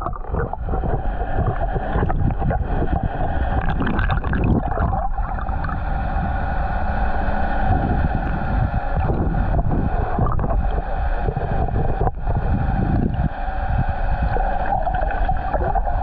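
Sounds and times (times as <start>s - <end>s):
boat motor humming: 0.0s - 16.0s
wind on microphone: 0.0s - 16.0s.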